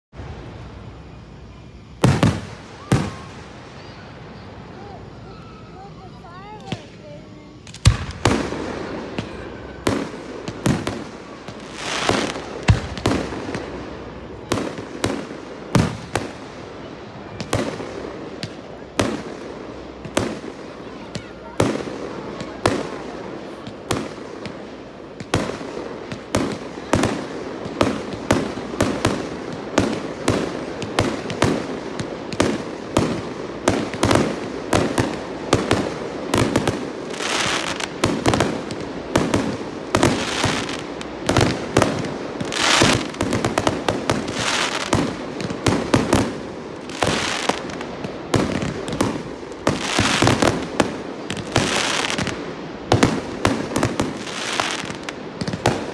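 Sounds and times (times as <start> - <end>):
fireworks bursting with bangs: 0.1 - 55.9
hissing fireworks bursts: 0.1 - 55.9.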